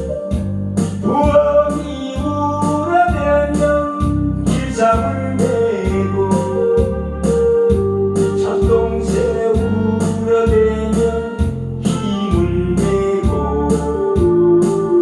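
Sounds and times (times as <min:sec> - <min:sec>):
steady drum beat: 0:00.0 - 0:14.9
electronic organ and keyboard melody: 0:00.0 - 0:15.0
sustained bass line: 0:00.0 - 0:15.0.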